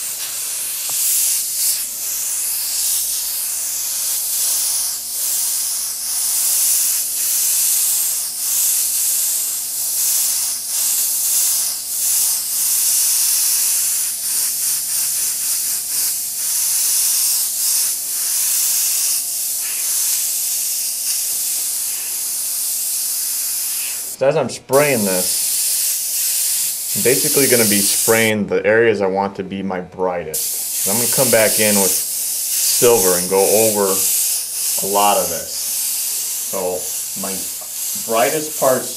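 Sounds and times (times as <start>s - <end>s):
airbrush hissing: 0.0s - 28.3s, 30.4s - 38.9s.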